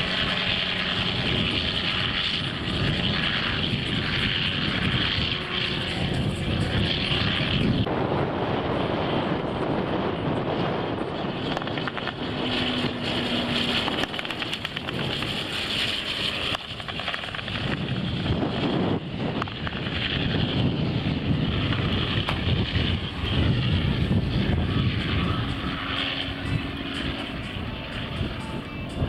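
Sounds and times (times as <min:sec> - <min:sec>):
aircraft engine rumble: 0:00.0 - 0:29.0
wind buffeting microphone: 0:00.0 - 0:29.0.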